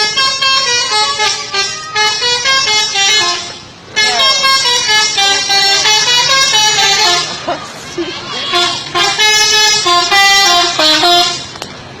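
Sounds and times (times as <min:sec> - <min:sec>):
melodic vehicle horn: 0:00.0 - 0:11.6.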